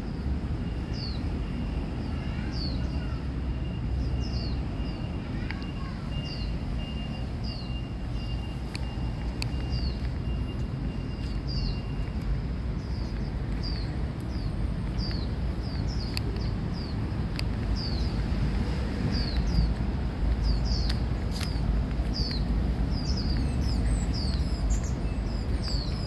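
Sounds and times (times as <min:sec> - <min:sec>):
small birds chirping: 0:00.0 - 0:26.0
steady low rumble: 0:02.8 - 0:26.0.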